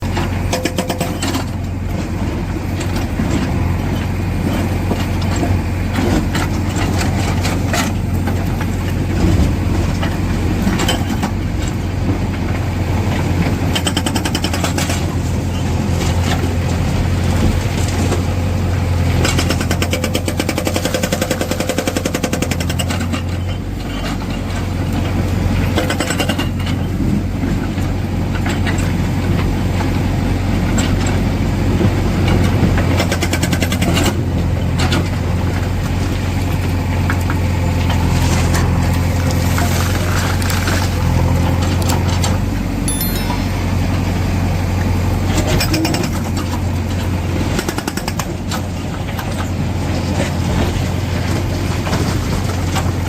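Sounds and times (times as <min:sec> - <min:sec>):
diesel engine running: 0:00.0 - 0:42.8, 0:43.5 - 0:53.0.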